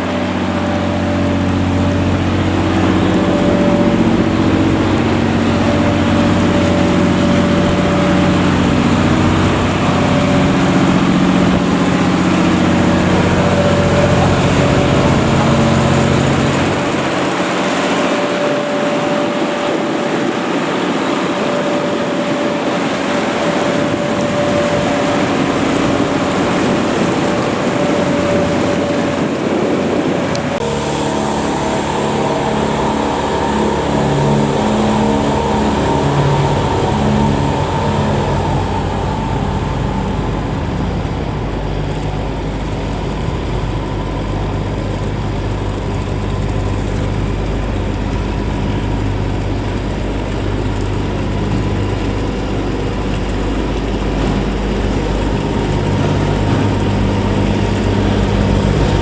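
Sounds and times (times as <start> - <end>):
boat engine running: 0.0 - 59.0
low uneven engine note: 0.0 - 59.0.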